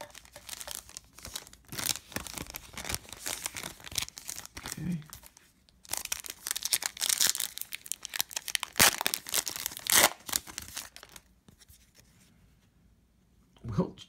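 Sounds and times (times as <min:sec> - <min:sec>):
foil wrapper tearing and crinkling: 0:00.0 - 0:11.3.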